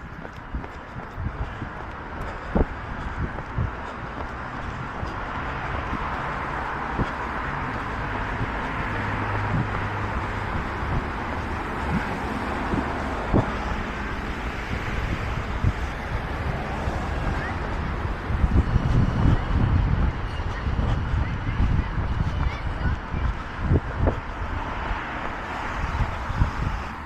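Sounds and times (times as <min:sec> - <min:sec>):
road traffic: 0:00.0 - 0:27.0
vehicle passing: 0:00.0 - 0:27.0
wind on microphone: 0:00.0 - 0:27.0.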